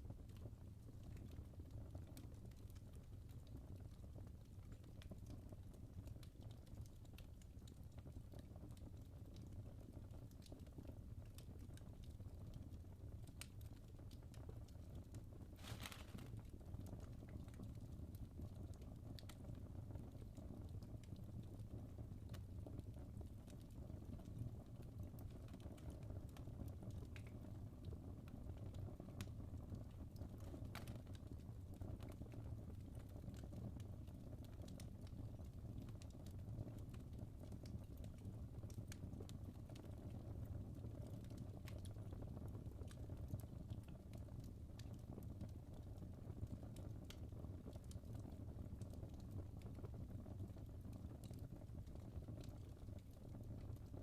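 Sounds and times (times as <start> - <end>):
logs crackling in fireplace: 0.0 - 54.0.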